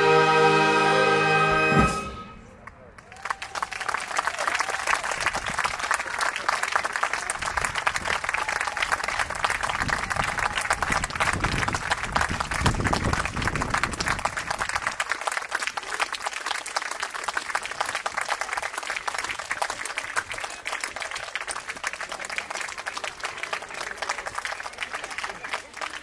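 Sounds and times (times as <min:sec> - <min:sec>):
audience applauding: 0:02.6 - 0:26.0.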